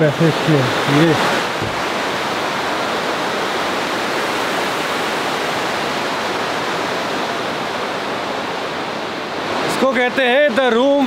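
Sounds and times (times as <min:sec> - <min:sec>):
mountain river rushing: 0:00.0 - 0:11.0.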